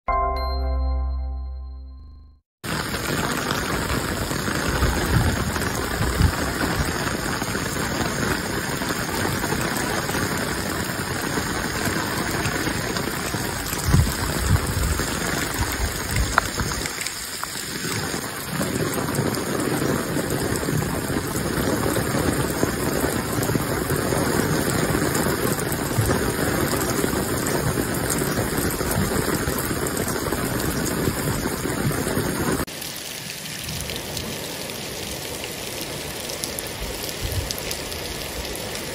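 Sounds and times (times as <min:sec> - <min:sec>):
heavy rain splashing: 0:02.6 - 0:38.9.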